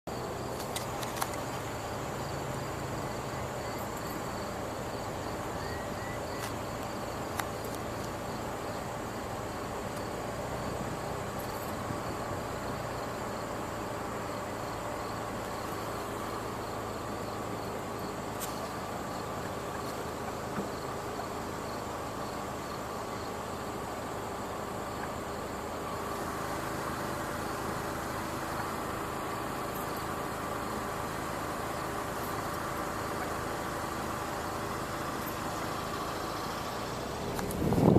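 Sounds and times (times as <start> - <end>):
insects chirring: 0.1 - 37.9.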